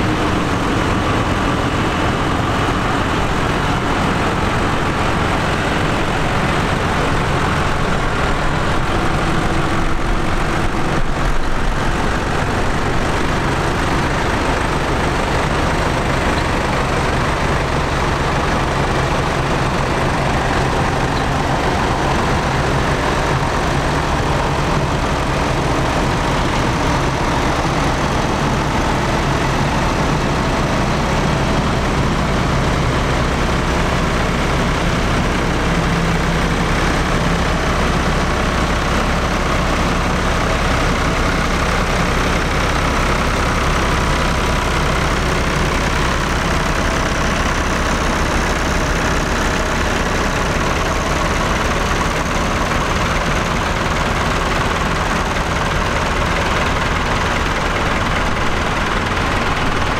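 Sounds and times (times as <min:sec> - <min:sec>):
heavy tractor engines running: 0:00.0 - 0:59.9.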